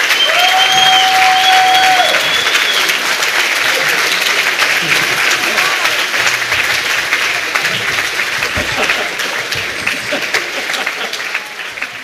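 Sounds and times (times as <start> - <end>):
audience applause: 0.0 - 12.0.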